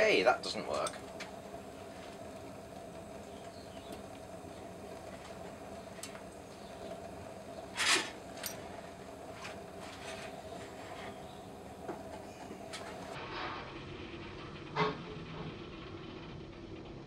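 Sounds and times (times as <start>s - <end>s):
gas burner humming: 0.0s - 17.0s.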